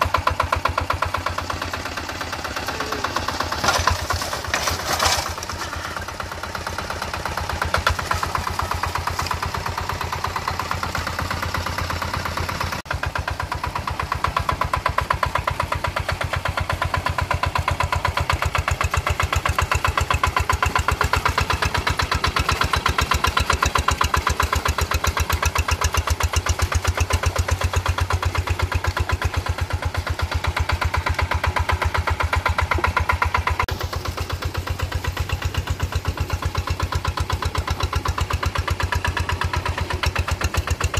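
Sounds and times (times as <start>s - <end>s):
tractor engine chugging: 0.0s - 40.9s.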